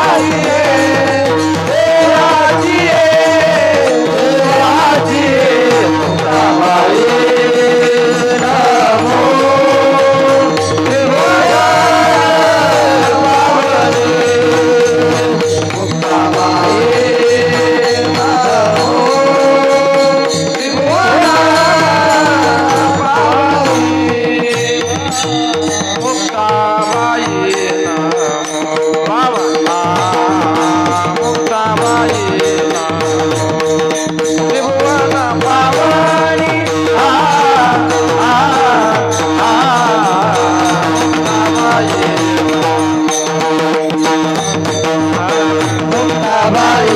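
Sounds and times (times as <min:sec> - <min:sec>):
man singing devotional song: 0:00.0 - 0:46.9
tabla-like drums: 0:00.0 - 0:46.9.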